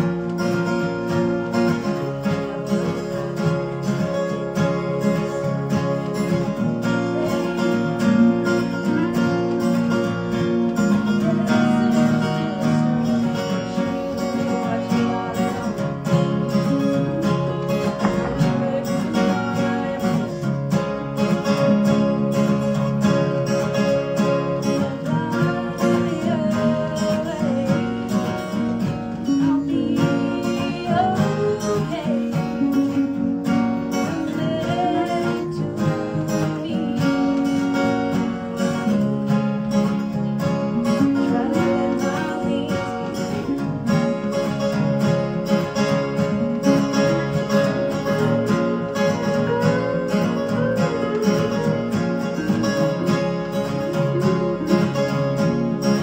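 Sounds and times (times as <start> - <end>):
second guitar: 0.0 - 56.0
strummed acoustic guitar: 0.0 - 56.0
woman singing: 0.0 - 56.0.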